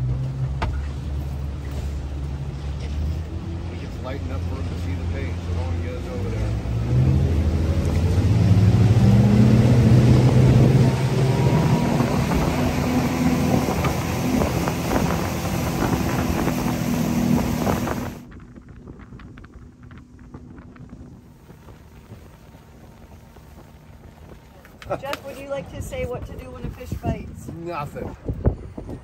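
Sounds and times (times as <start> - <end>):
boat engine speeding up: 0.0 - 28.1
rush of wind and water: 0.0 - 29.0.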